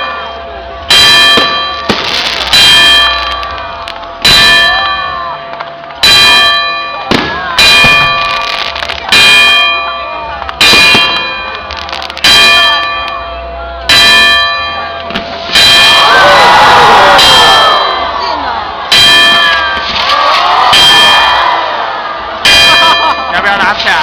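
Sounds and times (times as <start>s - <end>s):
large bell ringing: 0.0s - 24.0s.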